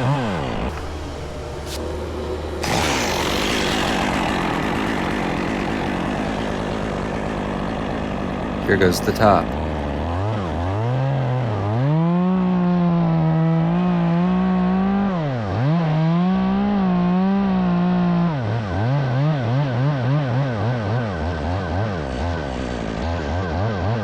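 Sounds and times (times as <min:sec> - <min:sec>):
chainsaw cutting at full throttle: 0:00.0 - 0:24.0.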